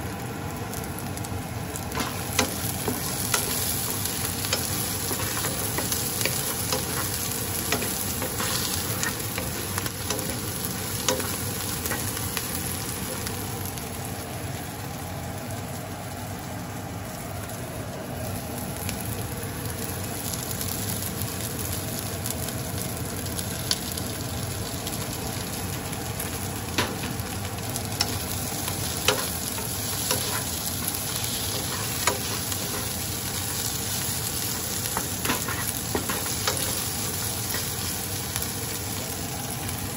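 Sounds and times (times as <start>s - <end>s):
onion and garlic sizzling in oil: 0.0s - 39.9s.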